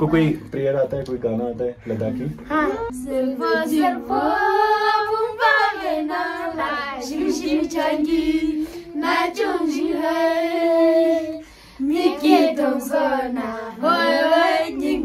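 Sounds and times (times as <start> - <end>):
boys singing: 2.0 - 15.0.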